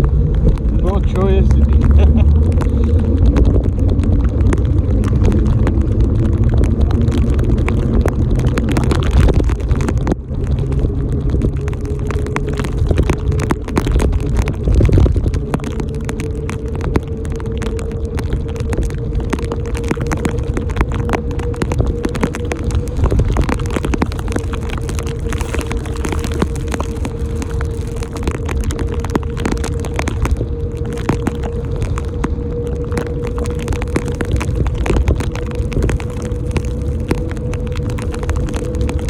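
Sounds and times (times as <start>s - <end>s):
road and traffic rumble: 0.0s - 39.0s
small crackles: 0.0s - 39.0s.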